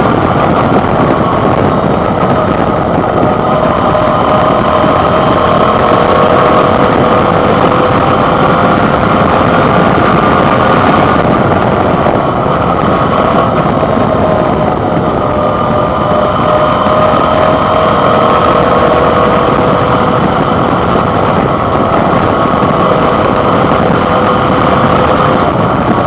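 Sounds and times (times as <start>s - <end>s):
motorcycle engine running: 0.0s - 26.0s
wind rush: 0.0s - 26.0s.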